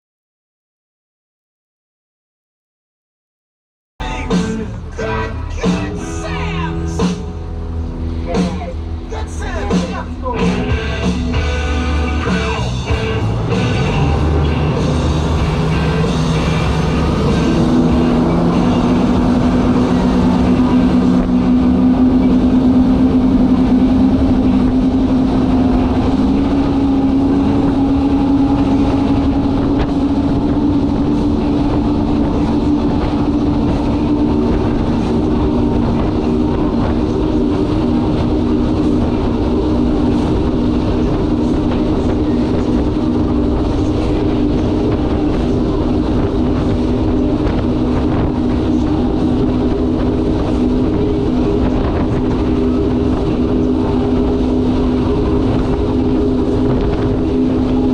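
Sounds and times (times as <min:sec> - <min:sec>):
powerboat engines droning: 0:04.0 - 0:57.9.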